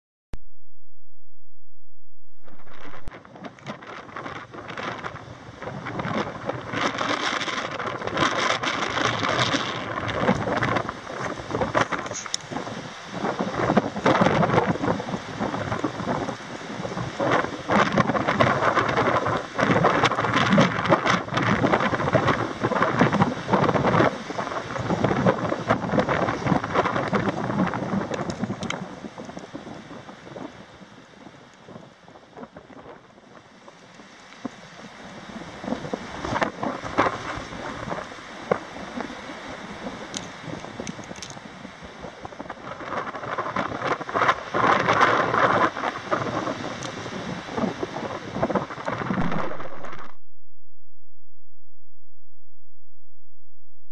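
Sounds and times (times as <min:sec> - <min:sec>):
strong wind buffeting microphone: 0:02.4 - 0:50.2.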